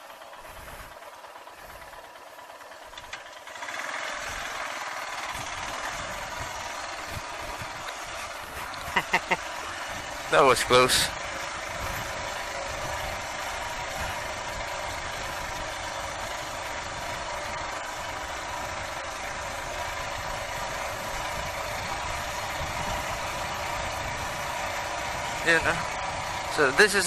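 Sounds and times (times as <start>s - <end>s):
motorcycle engine running: 0.0s - 27.0s
wind and tyre noise: 0.0s - 27.0s.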